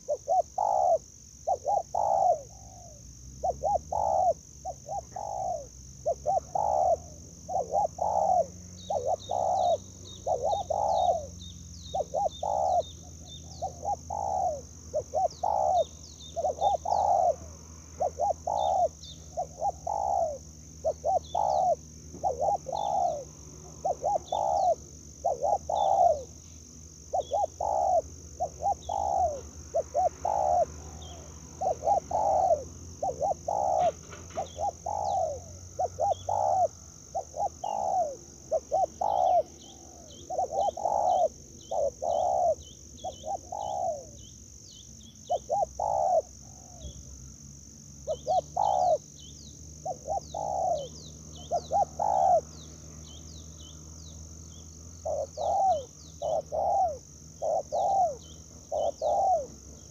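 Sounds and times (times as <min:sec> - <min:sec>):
dove cooing: 0:00.0 - 0:47.2, 0:48.0 - 0:53.7, 0:55.0 - 0:59.9
small birds chirping: 0:00.0 - 0:59.9.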